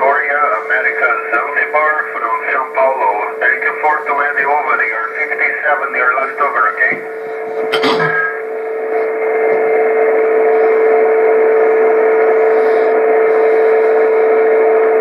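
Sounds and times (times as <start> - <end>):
radio static hiss: 0.0 - 15.0
steady low whistle: 0.0 - 15.0.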